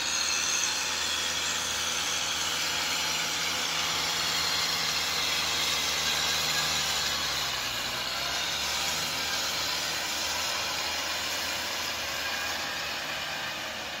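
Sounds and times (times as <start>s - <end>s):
tiller churning soil hiss: 0.0s - 14.0s
tractor diesel engine under load: 0.0s - 14.0s.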